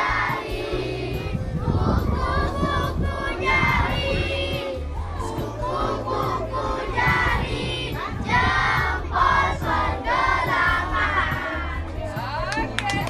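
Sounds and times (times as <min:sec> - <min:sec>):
children singing in unison: 0:00.0 - 0:11.9.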